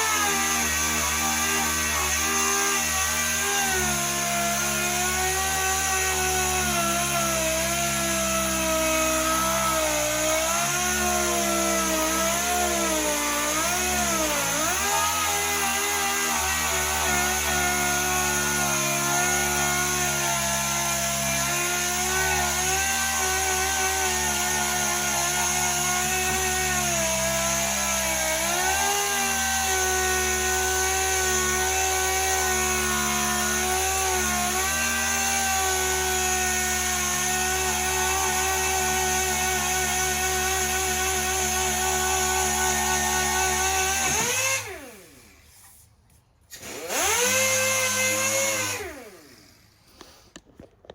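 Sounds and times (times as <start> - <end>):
power sander running: 0.0 - 45.8, 46.5 - 50.9.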